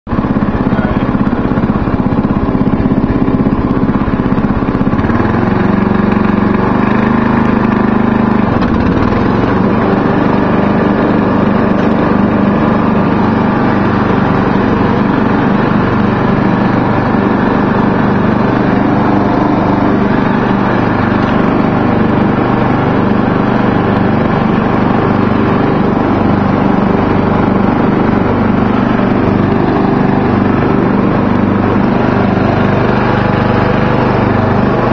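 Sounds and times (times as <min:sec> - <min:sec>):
riding lawn mower engine: 0:00.1 - 0:34.9.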